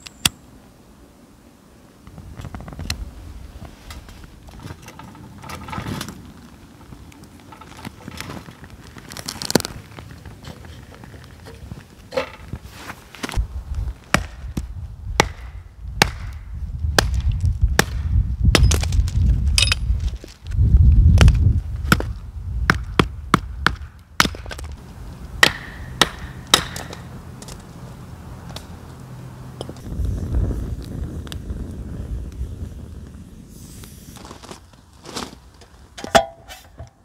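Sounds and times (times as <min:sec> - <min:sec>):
firewood being split: 0:04.0 - 0:36.5.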